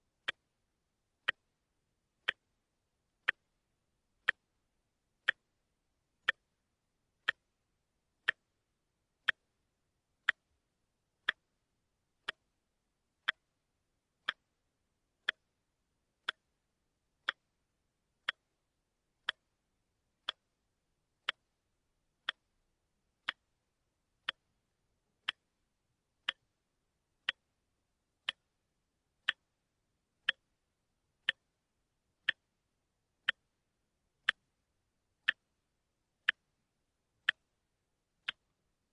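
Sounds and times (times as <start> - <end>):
watch ticking: 0.2 - 2.6, 3.2 - 3.6, 4.2 - 4.6, 5.2 - 5.6, 6.2 - 6.6, 7.2 - 9.6, 10.2 - 11.6, 12.2 - 13.6, 14.2 - 14.6, 15.2 - 38.9.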